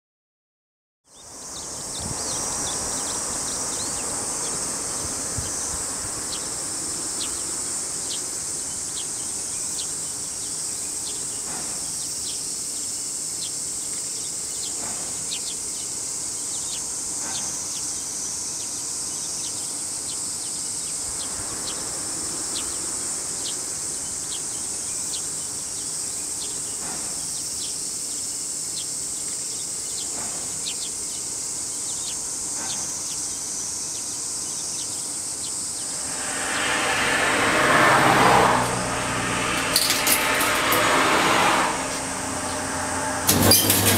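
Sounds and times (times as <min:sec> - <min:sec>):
insect chirps: 0:01.1 - 0:38.9
insects droning: 0:01.1 - 0:43.3.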